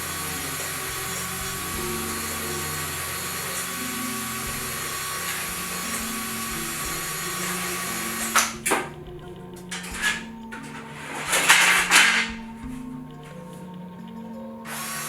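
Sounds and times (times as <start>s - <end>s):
power tool deburring metal: 0.0s - 13.6s, 14.6s - 15.0s.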